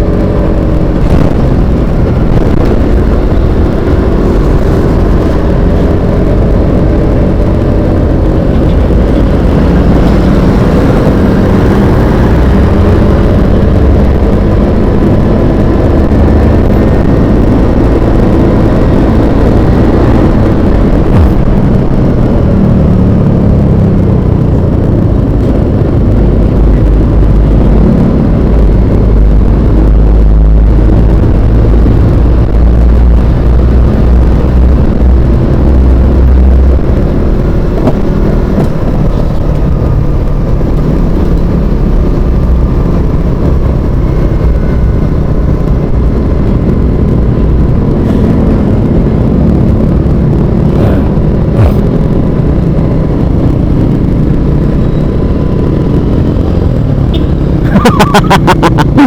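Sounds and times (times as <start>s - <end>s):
road vehicle engine rumble: 0.0s - 59.0s.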